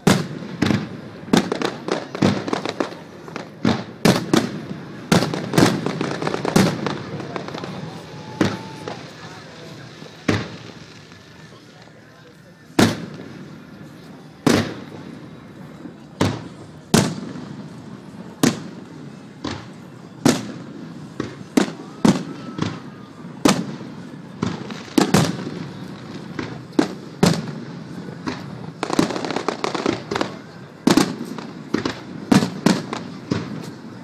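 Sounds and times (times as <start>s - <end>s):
firework shells booming: 0.0s - 11.4s, 12.7s - 13.7s, 14.4s - 34.0s.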